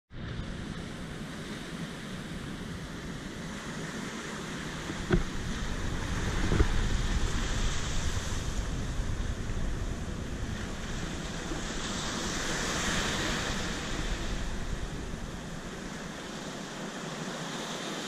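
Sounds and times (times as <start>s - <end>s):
wind buffeting microphone: 0.1s - 17.4s
surf washing onto beach: 0.2s - 18.0s.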